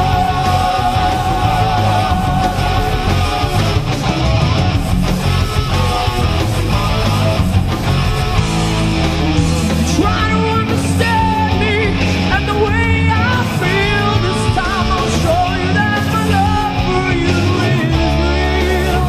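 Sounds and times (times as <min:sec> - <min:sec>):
electric guitar lead melody: 0:00.0 - 0:19.0
rock song: 0:00.0 - 0:19.0.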